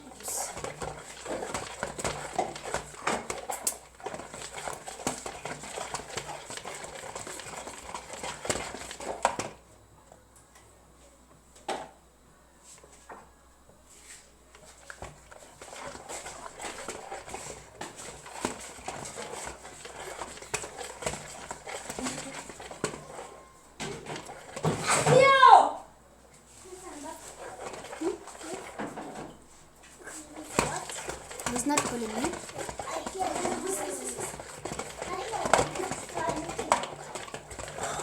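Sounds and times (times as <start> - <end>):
utensil beating in a bowl: 0.0 - 9.6, 14.5 - 25.0, 26.9 - 29.3, 30.0 - 38.0.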